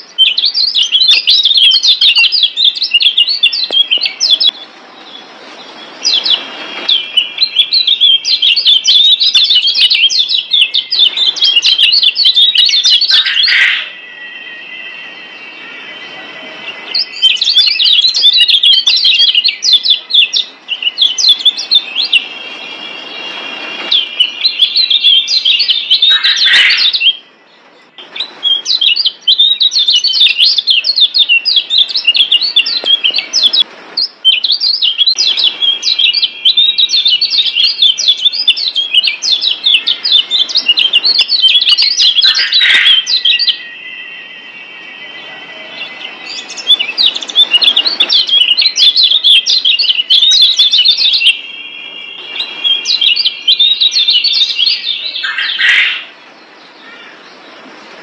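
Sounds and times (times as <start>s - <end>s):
bird chattering song: 0.0s - 57.6s
high bird trill: 0.0s - 57.6s.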